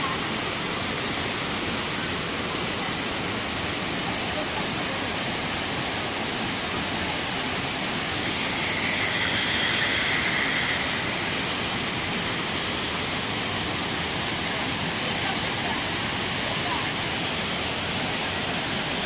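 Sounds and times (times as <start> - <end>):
waterfall pouring onto rocks: 0.0 - 19.0.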